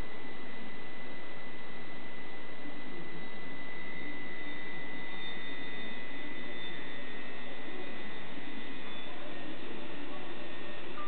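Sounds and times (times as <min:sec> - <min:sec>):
magnetic stirrer hum and whine: 0:00.0 - 0:11.0.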